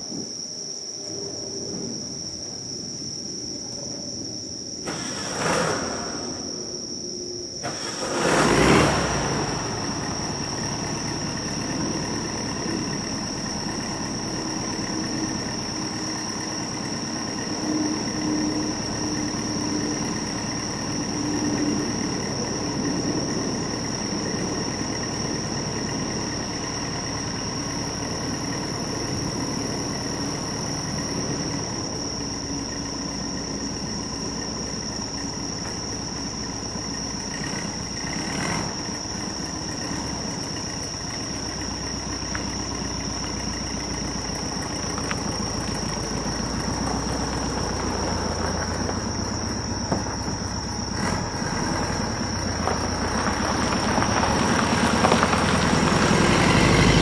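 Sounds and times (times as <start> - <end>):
crickets chirping: 0.0 - 57.0
car engine cranking and idling: 7.6 - 57.0.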